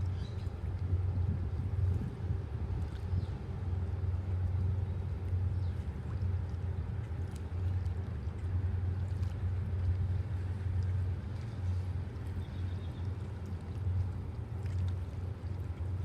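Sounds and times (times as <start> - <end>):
ship engine droning: 0.0 - 16.0.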